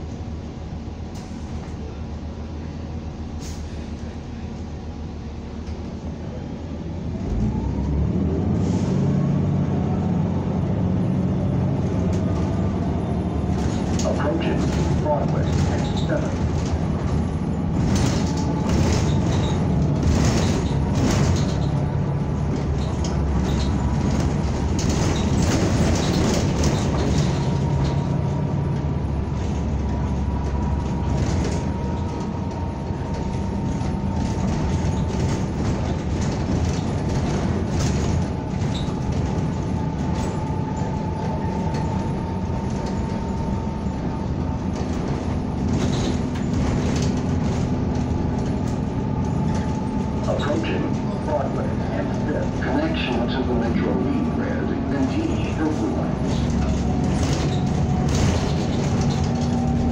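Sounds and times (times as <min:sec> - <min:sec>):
bus body rattling: 0:00.0 - 0:59.9
bus engine and road rumble: 0:00.0 - 0:59.9.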